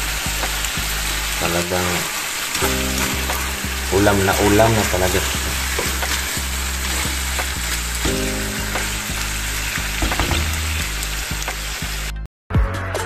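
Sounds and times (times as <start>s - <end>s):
meat sizzling in a frying pan: 0.0s - 12.2s
spatula stirring in a pan: 0.4s - 10.9s.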